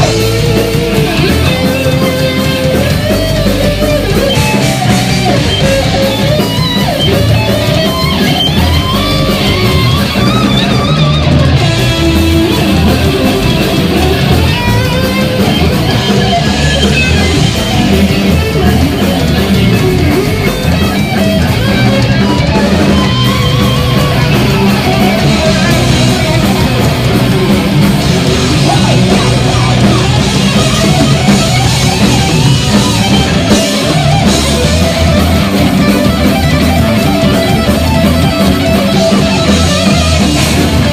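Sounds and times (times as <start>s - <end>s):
heavy metal band playing live: 0.0s - 40.9s.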